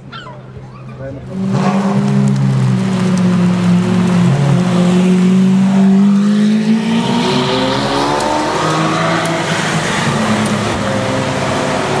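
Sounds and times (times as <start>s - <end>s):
sports car engine accelerating: 1.2s - 12.0s.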